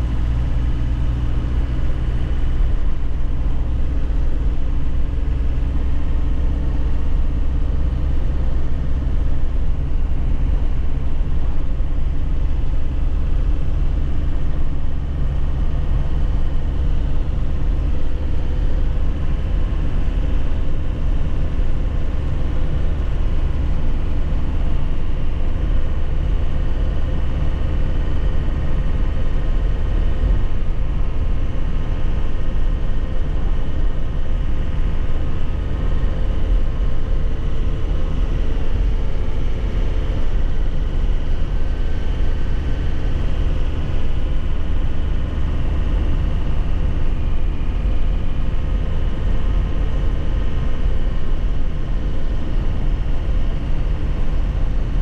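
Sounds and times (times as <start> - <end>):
road noise: 0.0 - 55.0
truck engine running: 0.0 - 55.0.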